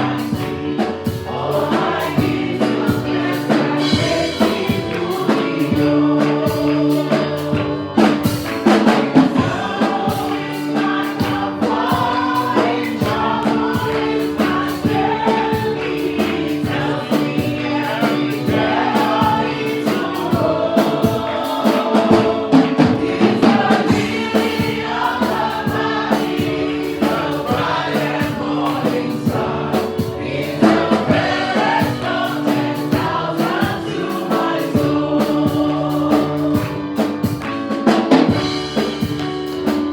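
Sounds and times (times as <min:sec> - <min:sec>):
choir singing gospel song: 0:00.0 - 0:39.9
drums: 0:00.0 - 0:39.9
keyboard: 0:00.0 - 0:39.9.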